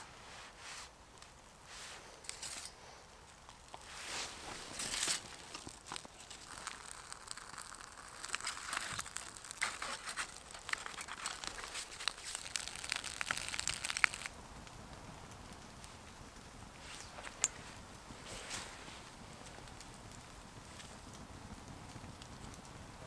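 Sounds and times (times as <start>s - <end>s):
kindling crackling in fire: 0.0s - 23.0s.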